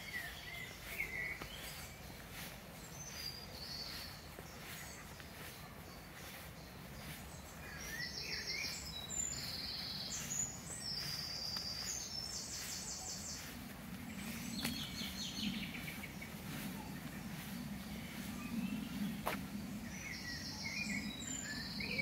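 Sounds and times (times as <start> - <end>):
faint low rumble: 0.0 - 22.0
songbirds trilling: 0.0 - 22.0.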